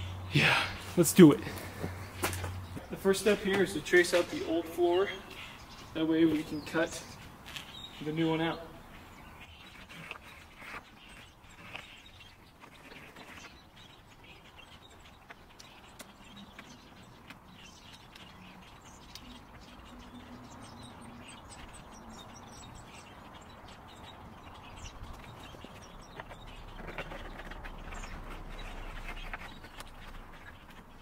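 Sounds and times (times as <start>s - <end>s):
birds chirping: 0.0s - 31.0s
rustle: 0.0s - 31.0s.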